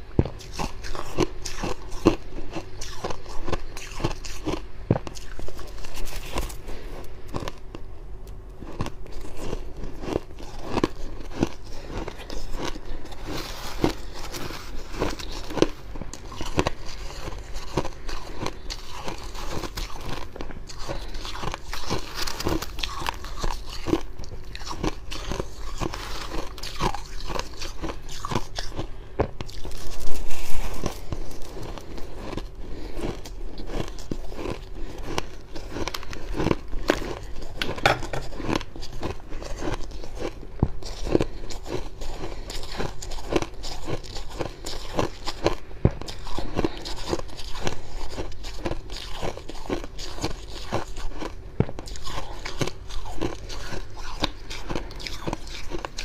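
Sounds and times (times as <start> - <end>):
chewing crunchy frost: 0.2 - 56.0.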